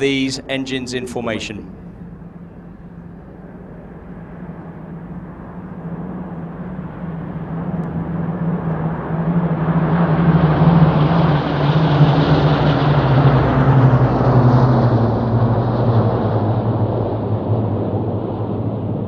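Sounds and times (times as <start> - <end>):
jet noise: 0.0 - 19.0
piston engine aircraft drone: 0.0 - 19.0.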